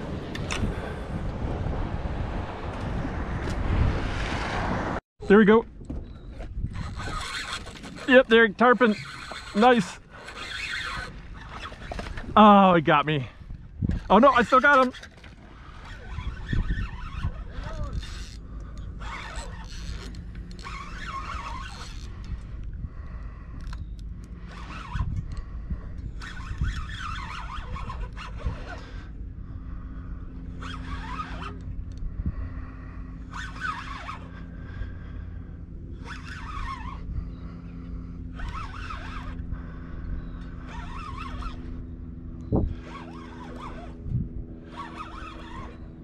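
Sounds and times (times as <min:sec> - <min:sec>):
low hum: 0:00.0 - 0:46.0
fishing reel cranking: 0:06.6 - 0:12.5, 0:13.9 - 0:46.0.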